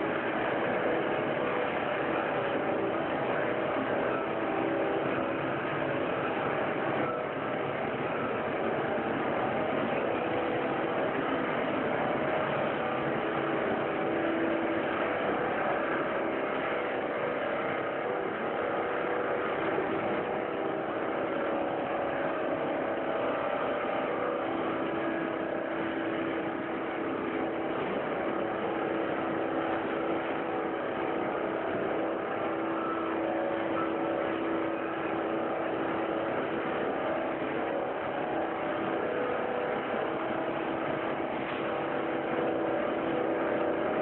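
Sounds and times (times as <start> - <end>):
recycling machinery humming: 0.0 - 44.0.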